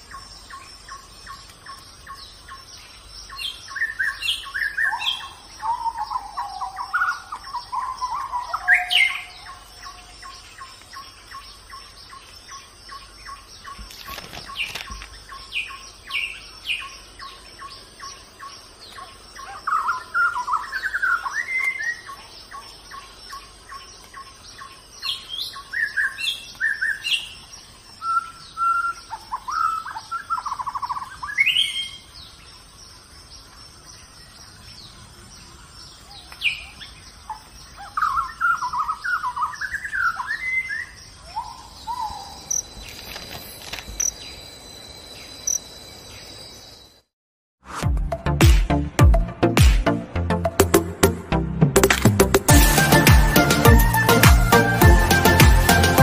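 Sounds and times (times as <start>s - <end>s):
birds chirping and warbling: 0.0s - 47.1s.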